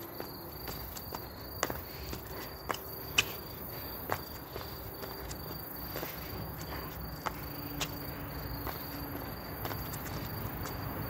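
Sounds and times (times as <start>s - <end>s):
night insects chirring: 0.0s - 11.0s
shoes tapping on brick paving: 0.0s - 11.0s.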